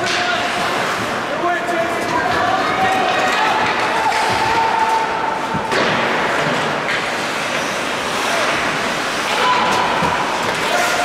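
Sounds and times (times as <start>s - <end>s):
arena noise: 0.0s - 11.0s.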